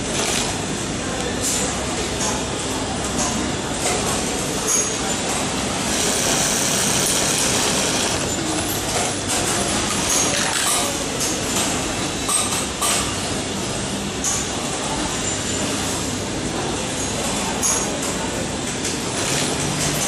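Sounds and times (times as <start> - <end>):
workshop machinery din: 0.0 - 20.0.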